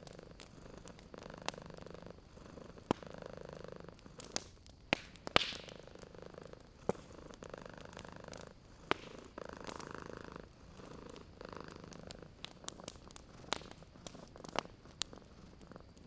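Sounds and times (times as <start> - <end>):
cat purring: 0.0 - 16.0
wood fire crackling: 0.0 - 16.0.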